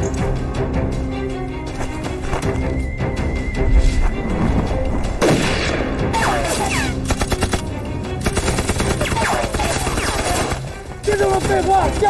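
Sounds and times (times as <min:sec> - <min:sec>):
background music score: 0:00.0 - 0:12.0.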